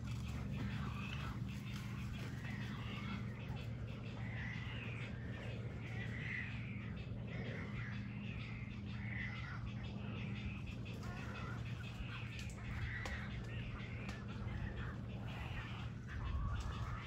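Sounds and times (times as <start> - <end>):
birds calling: 0.0 - 17.0
steady low hum: 0.0 - 17.0.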